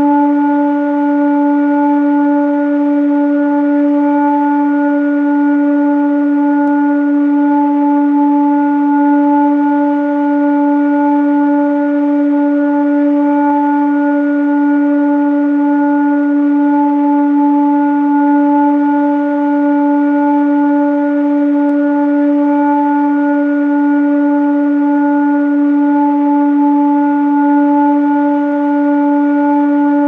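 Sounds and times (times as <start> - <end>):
steady held tone drone: 0.0 - 30.0.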